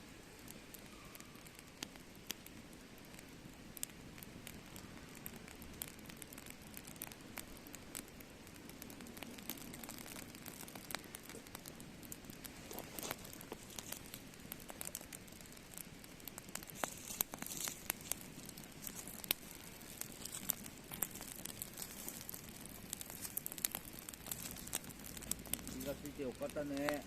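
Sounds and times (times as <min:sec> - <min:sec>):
crackling and rustling: 0:00.0 - 0:27.0.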